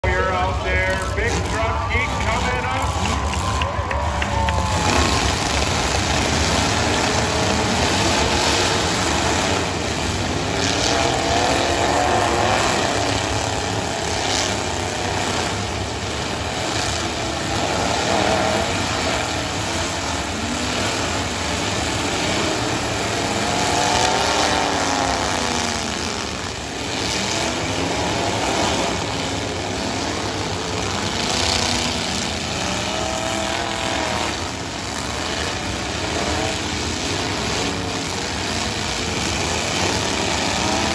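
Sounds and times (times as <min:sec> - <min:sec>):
trucks banging into each other: 0:00.0 - 0:34.5
truck engines revving hard: 0:00.0 - 0:40.9.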